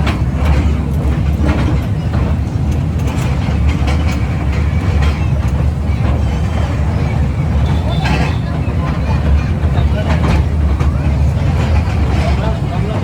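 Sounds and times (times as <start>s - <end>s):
toy train wheels rumbling on rail: 0.0s - 13.0s.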